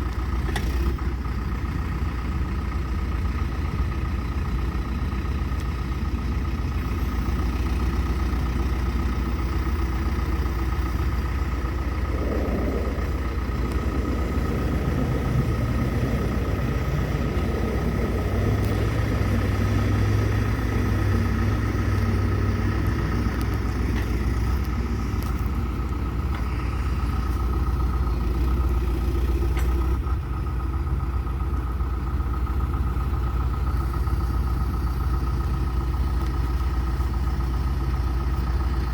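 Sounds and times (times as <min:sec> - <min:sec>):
diesel engine running: 0:00.0 - 0:38.9
thin steady whine: 0:06.1 - 0:38.8.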